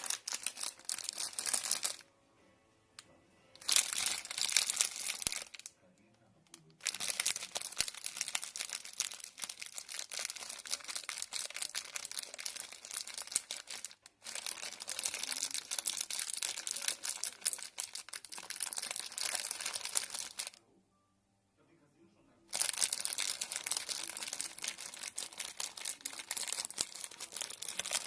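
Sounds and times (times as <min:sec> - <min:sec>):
plastic bag crinkling: 0:00.0 - 0:02.0, 0:03.6 - 0:05.7, 0:06.6 - 0:20.6, 0:22.5 - 0:28.0.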